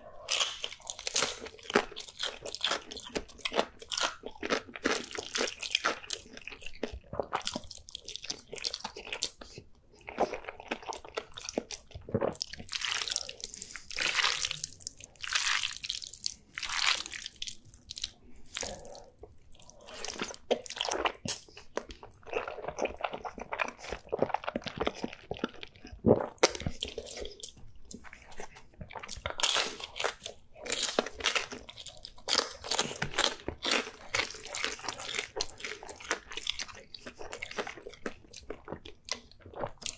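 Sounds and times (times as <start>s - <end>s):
wet chewing and slurping: 0.1s - 39.9s.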